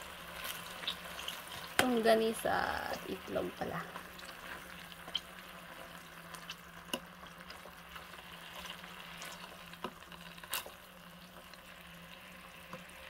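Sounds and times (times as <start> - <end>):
sausages sizzling in oil: 0.0 - 13.0.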